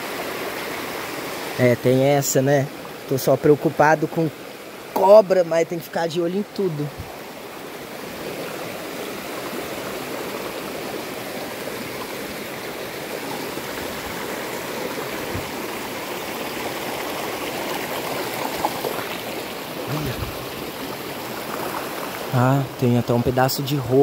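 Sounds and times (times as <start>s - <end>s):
stream babbling over stones: 0.0s - 24.0s.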